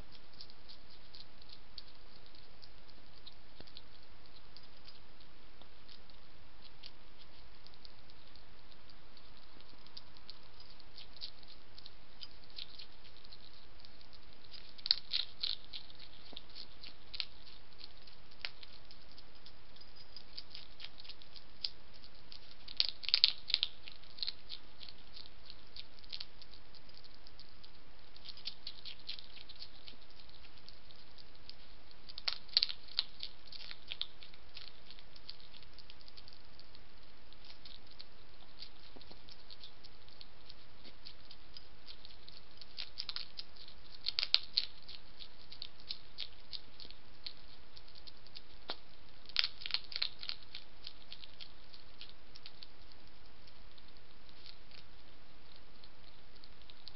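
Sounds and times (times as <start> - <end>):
hedgehog crunching food: 0.0 - 56.9.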